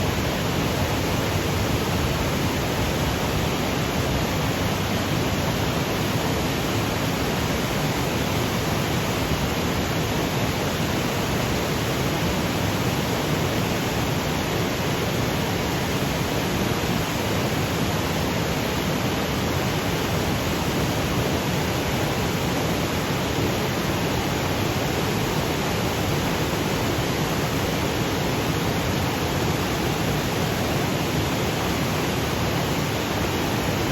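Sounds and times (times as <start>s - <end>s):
waterfall rushing over boulders: 0.0s - 33.9s.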